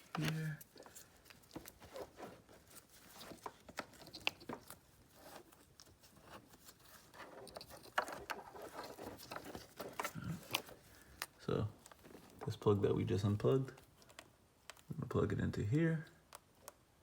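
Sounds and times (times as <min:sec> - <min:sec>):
hands handling plastic connectors: 0:00.0 - 0:15.0.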